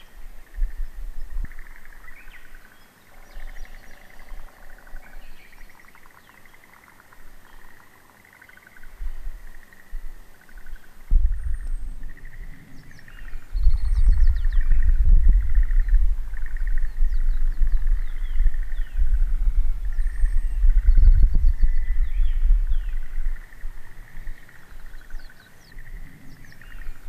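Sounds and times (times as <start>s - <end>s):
birds singing and calling: 0.0s - 27.0s.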